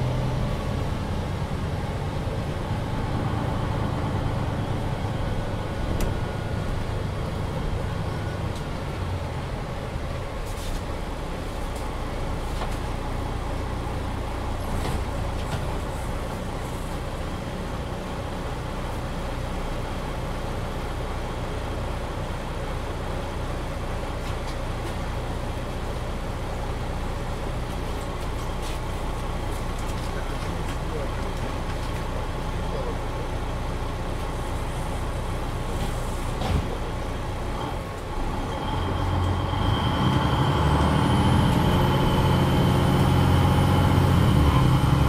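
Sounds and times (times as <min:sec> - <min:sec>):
bus engine drone: 0:00.0 - 0:45.0
road noise: 0:00.0 - 0:45.0.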